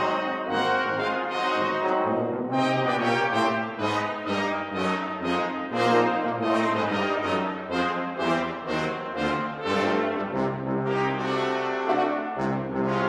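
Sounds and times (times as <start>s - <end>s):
brass ensemble playing: 0.0s - 13.0s.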